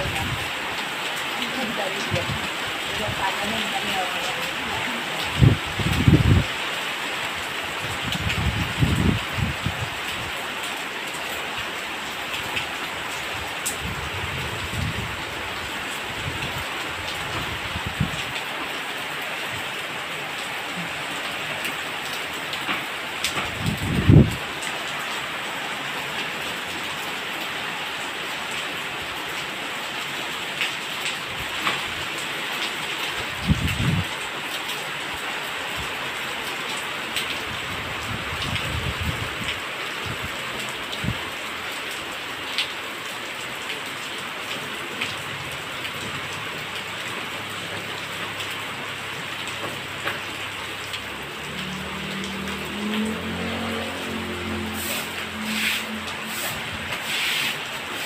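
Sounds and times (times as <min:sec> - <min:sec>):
rain on ground and plants: 0:00.0 - 0:58.0.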